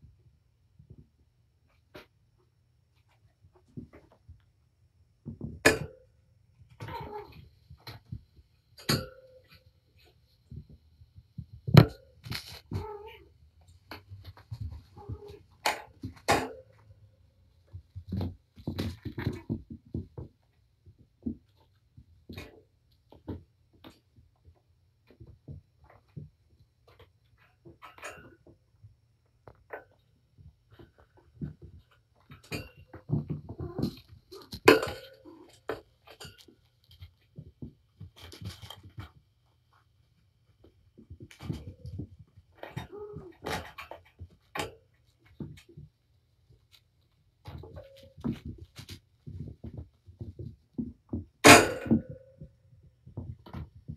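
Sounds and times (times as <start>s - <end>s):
cats thumping and scuffling: 6.6s - 53.9s.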